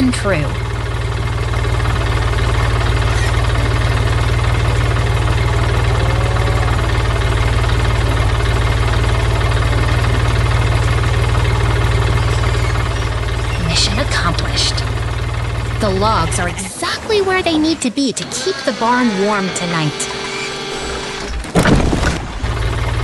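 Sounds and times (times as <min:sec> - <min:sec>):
forklift engine chugging: 0:00.0 - 0:23.0.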